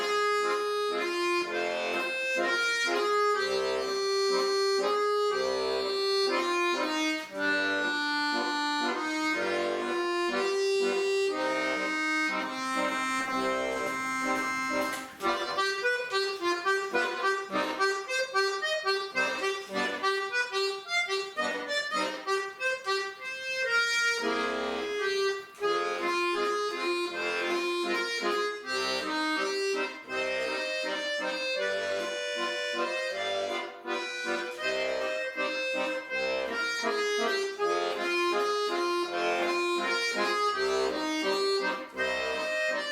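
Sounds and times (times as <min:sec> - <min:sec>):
accordion playing lively tune: 0:00.0 - 0:42.9.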